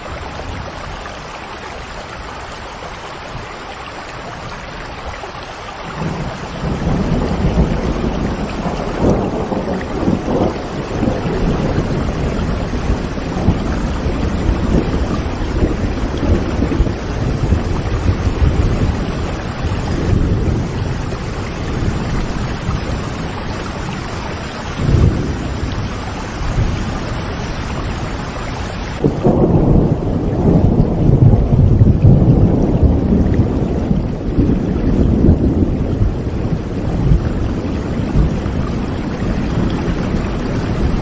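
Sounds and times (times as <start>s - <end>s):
steady rain: 0.0s - 41.0s
rolling thunder: 5.8s - 41.0s.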